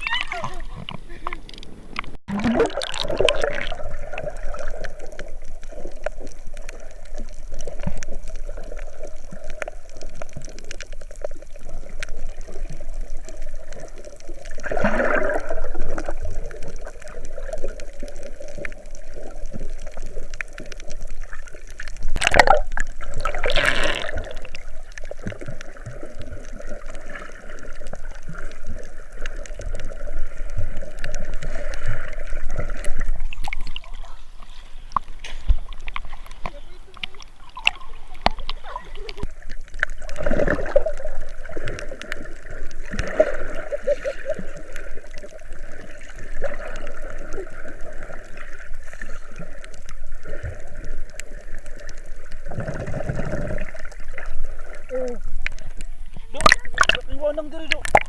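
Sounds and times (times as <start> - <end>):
sea water sloshing and gurgling: 0.0 - 58.0
water splashes: 0.0 - 58.0.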